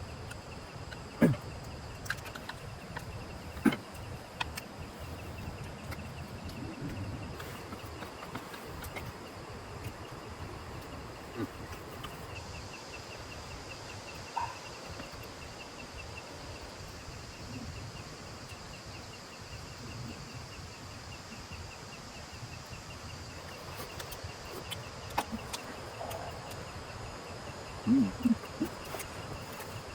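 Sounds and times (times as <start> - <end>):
insects chirping: 0.0 - 29.9.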